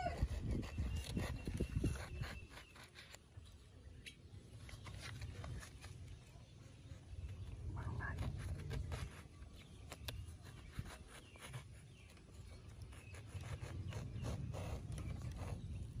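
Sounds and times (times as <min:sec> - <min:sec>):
knife scraping gourd skin: 0:00.0 - 0:03.6, 0:04.6 - 0:16.0.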